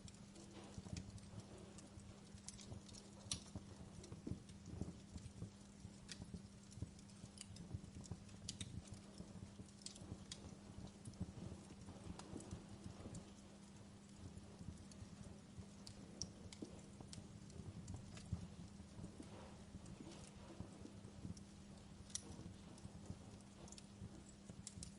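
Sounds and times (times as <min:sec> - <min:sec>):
burning logs crackling and popping: 0:00.0 - 0:24.9
faint low hum: 0:00.0 - 0:24.9.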